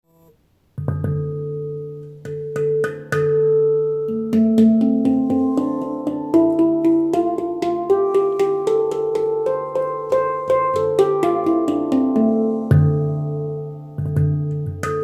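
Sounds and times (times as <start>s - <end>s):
steel tongue drum melody: 0.8s - 15.0s.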